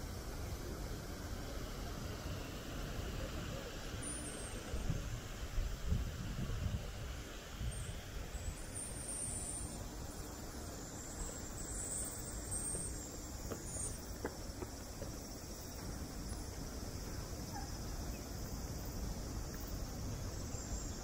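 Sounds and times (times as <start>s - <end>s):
high insect drone: 0.0s - 21.0s
low hiss: 0.0s - 21.0s.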